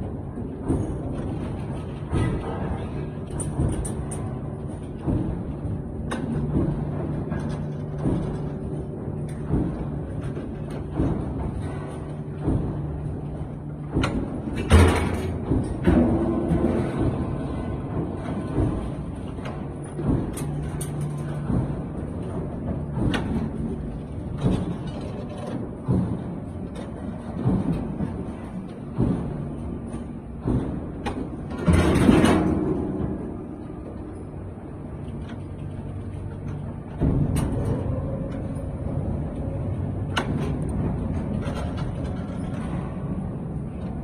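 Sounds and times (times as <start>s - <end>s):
machine mechanical hum: 0.0s - 44.0s
machine knocks: 0.5s - 44.0s.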